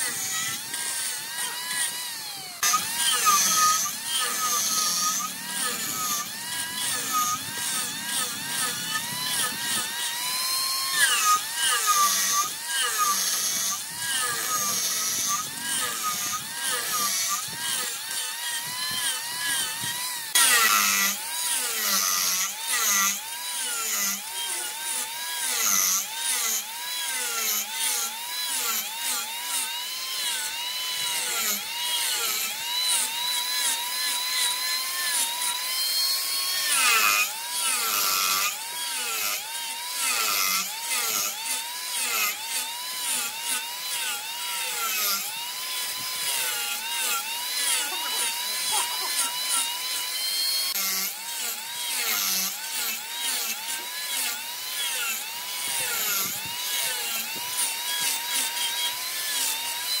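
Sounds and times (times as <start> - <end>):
turning tool cutting wood: 0.0 - 60.0
wood lathe whine: 0.0 - 60.0.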